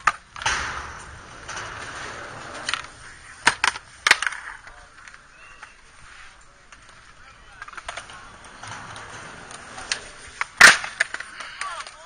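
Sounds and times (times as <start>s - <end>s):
skateboard clacking on concrete: 0.0s - 0.4s, 1.2s - 5.8s, 6.7s - 12.0s
skateboard scraping: 0.0s - 12.0s.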